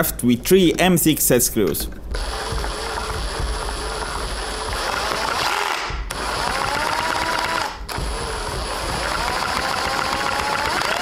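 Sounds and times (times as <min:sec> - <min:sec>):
mechanical noise of turning gears: 0:01.9 - 0:11.0
cordless drill motor whine: 0:02.1 - 0:11.0.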